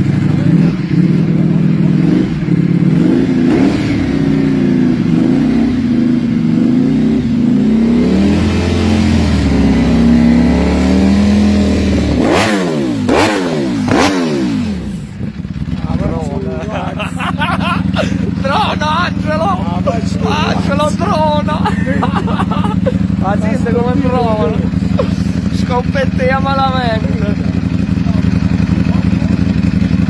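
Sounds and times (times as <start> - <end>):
motorcycle engine idling: 0.0 - 30.0
motorcycle engine revving: 0.0 - 30.0.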